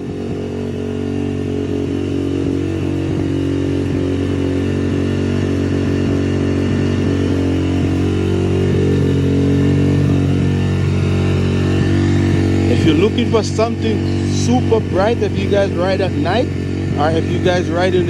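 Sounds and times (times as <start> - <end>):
dirt bike engine idling: 0.0 - 18.0.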